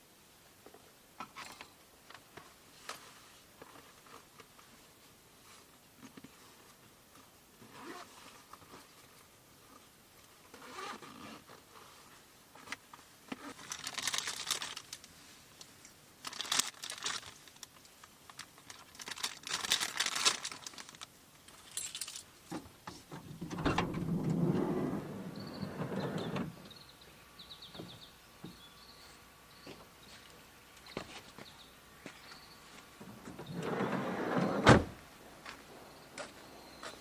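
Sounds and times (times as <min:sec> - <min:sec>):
rustling and crinkling: 0:00.6 - 0:26.8, 0:27.7 - 0:37.0.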